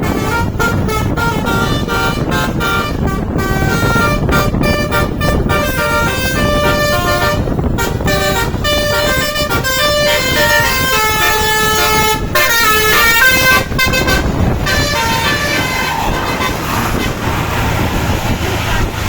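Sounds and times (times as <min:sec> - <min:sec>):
engine and traffic rumble: 0:00.0 - 0:19.0
multi-tone bus horn tune: 0:00.0 - 0:19.0.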